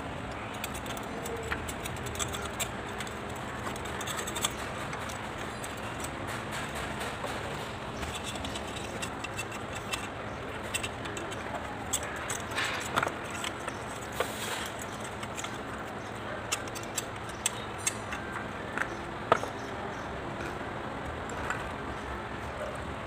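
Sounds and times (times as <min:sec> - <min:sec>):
steady background noise: 0:00.0 - 0:23.0
small metal parts clinking: 0:00.5 - 0:19.4.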